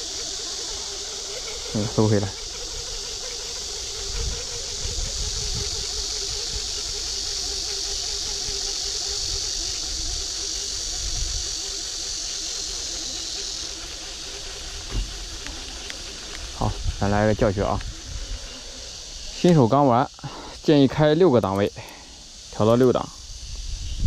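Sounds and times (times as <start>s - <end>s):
high hiss: 0.0s - 24.0s.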